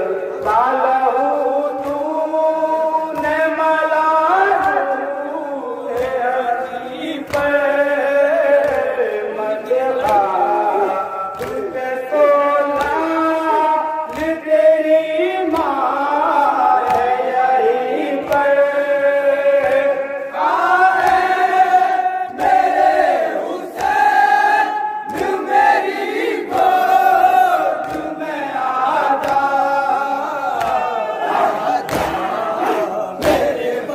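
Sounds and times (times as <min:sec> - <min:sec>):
man chanting into a microphone: 0:00.0 - 0:25.5, 0:26.5 - 0:33.9
crowd of men singing along: 0:00.0 - 0:33.9
rhythmic chest-beating: 0:00.0 - 0:33.9.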